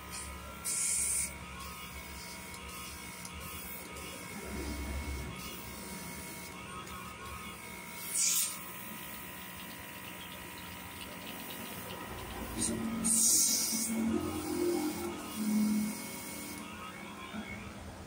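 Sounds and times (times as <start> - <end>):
small machine humming: 0.0 - 18.0.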